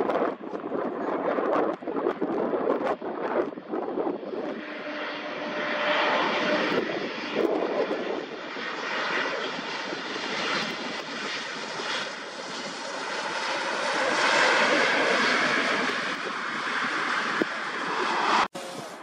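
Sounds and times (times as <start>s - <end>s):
jet engines rushing: 0.0s - 19.0s.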